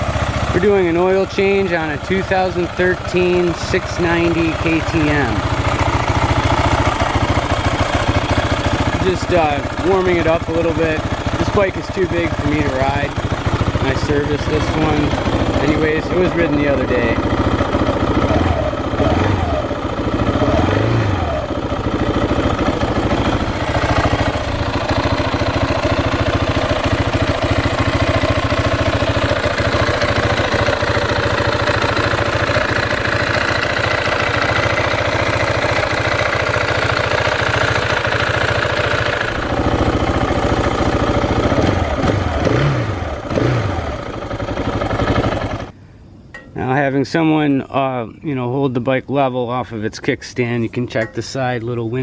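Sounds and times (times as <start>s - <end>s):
motorcycle engine idling: 0.0s - 46.6s, 50.4s - 52.0s.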